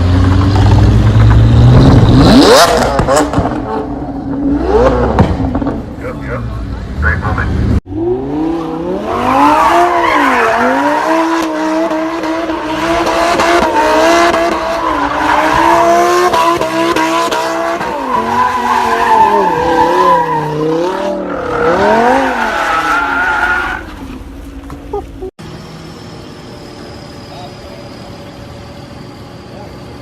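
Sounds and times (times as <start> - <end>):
car engine revving: 0.0 - 24.4.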